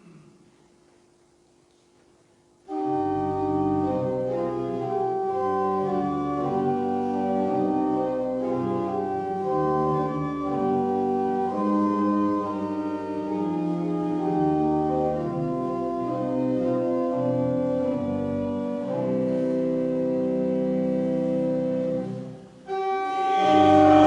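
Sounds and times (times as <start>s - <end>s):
organ playing a hymn: 2.6s - 24.0s.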